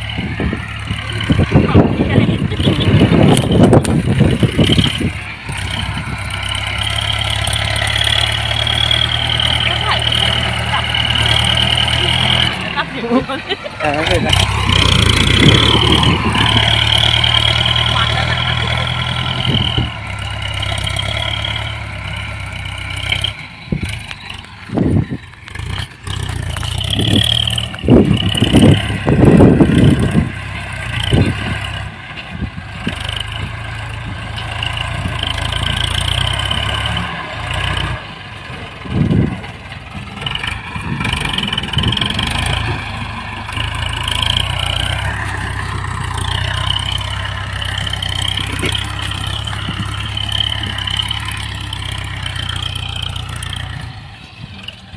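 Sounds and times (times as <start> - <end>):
loud irregular low rumbles: 0.0 - 54.9
tractor diesel engine under load: 0.0 - 54.9.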